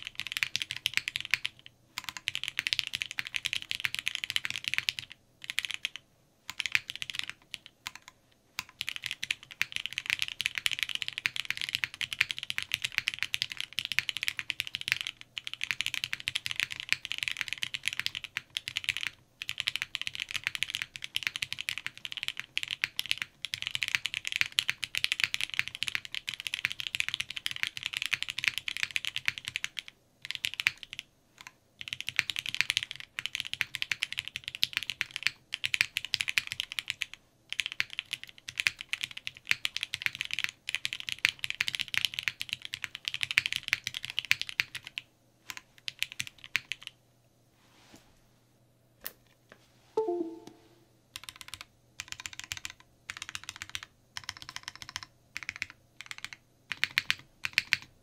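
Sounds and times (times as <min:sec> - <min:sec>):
mechanical keyboard typing: 0:00.0 - 0:47.0, 0:50.0 - 0:57.9.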